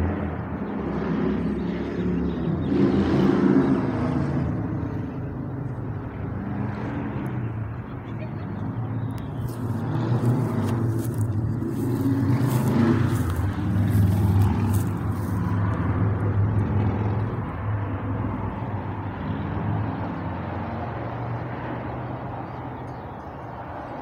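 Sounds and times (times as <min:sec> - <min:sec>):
car engine humming: 0:01.3 - 0:20.6.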